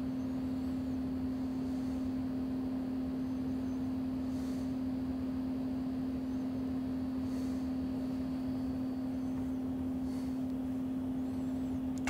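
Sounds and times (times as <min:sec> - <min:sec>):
cooling fans rushing: 0:00.0 - 0:12.0
power supply hum: 0:00.0 - 0:12.0.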